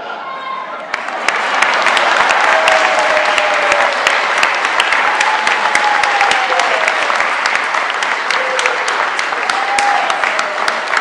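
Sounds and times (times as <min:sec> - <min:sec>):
voices cheering: 0:00.0 - 0:11.0
audience applauding: 0:00.9 - 0:11.0.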